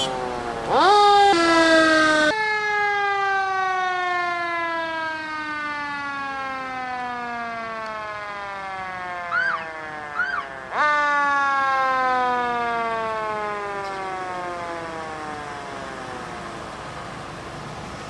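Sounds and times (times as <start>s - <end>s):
siren chirps: 0.0s - 16.8s
fire engine siren: 0.0s - 18.0s.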